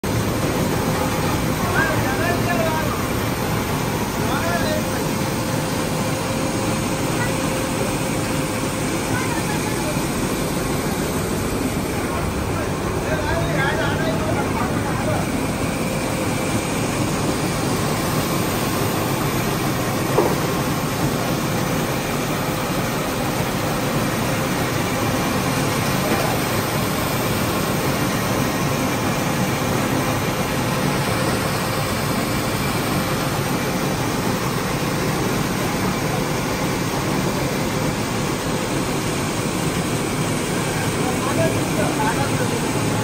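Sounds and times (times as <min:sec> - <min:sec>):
rice mill running: 0:00.0 - 0:43.0.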